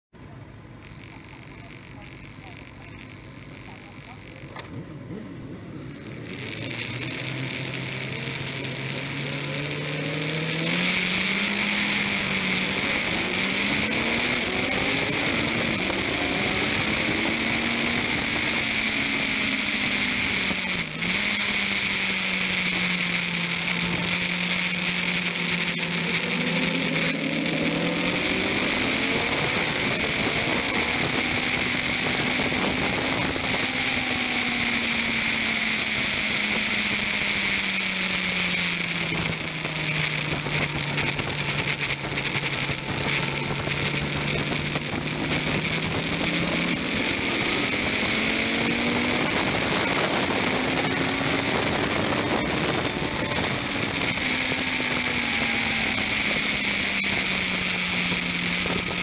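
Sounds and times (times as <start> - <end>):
motorcycle engine accelerating: 0.1 - 59.0
wind noise on camera: 6.1 - 59.0.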